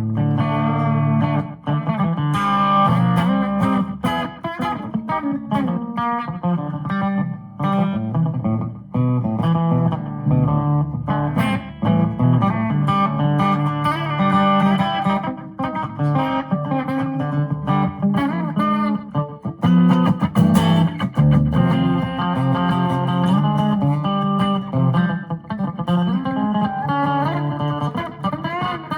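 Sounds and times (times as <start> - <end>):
electric guitar twang: 0.0 - 28.9.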